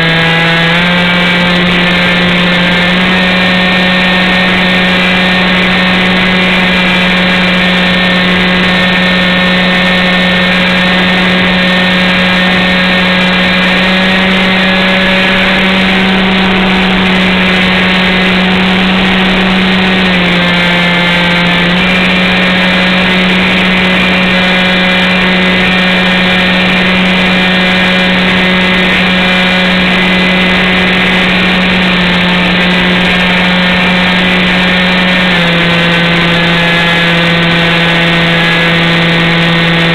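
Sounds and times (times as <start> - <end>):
model airplane motor buzzing: 0.0 - 39.9.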